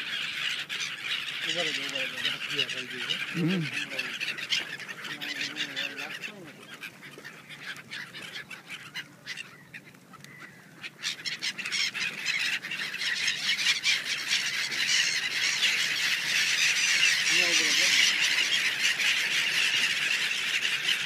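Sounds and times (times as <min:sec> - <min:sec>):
flock of gulls calling: 0:00.0 - 0:21.0.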